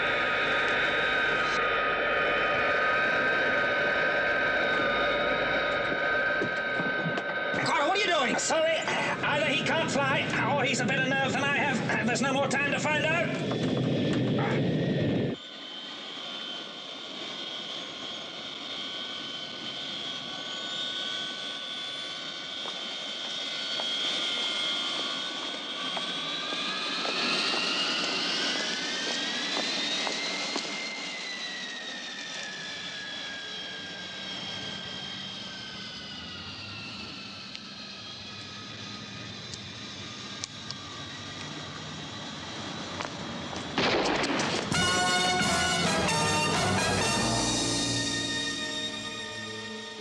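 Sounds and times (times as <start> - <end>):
jet airliner engines whining: 0.0 - 50.0.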